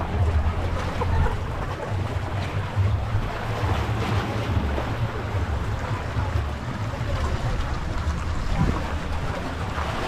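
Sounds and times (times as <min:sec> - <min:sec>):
sea waves on shore: 0:00.0 - 0:10.0
wind buffeting microphone: 0:00.0 - 0:10.0.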